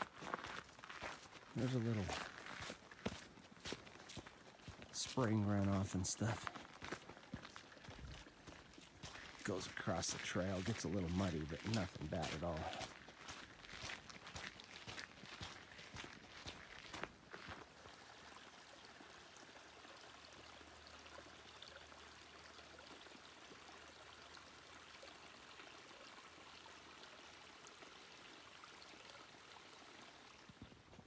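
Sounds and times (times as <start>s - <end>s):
creek running water: 0.0s - 31.0s.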